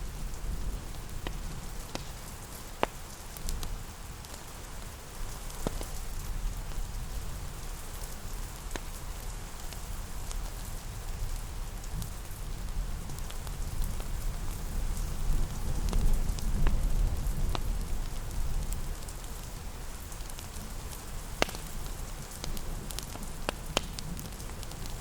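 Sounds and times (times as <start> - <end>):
fireplace crackling and popping: 0.0 - 25.0
steady rain: 0.0 - 25.0.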